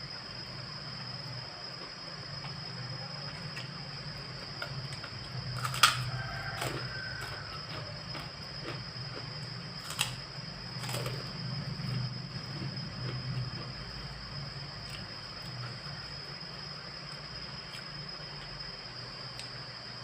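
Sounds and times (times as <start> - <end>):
faint eating ticks: 0.0 - 20.0
steady background hum: 0.0 - 20.0.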